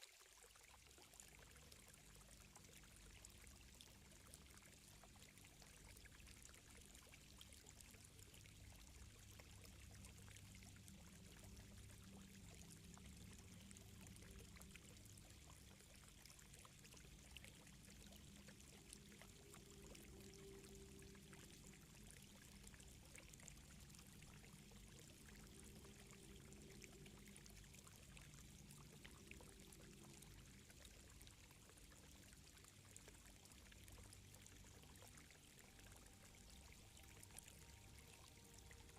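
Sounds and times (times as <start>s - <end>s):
trickling water: 0.0s - 38.9s
soft low hum: 0.6s - 38.9s.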